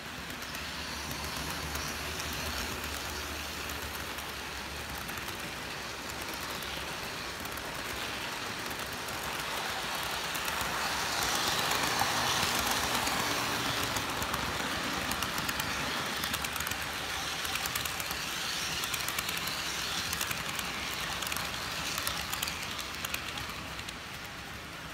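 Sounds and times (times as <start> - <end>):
model train running on track: 0.0 - 24.9.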